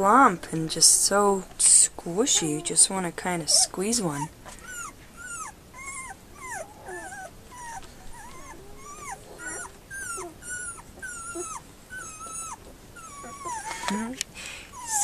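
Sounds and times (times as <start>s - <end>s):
puppies squeaking and whimpering: 1.7s - 15.0s.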